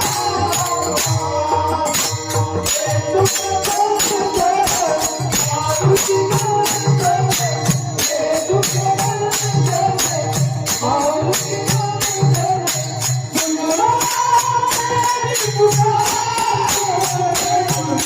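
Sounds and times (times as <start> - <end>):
hand cymbals: 0.0 - 18.0.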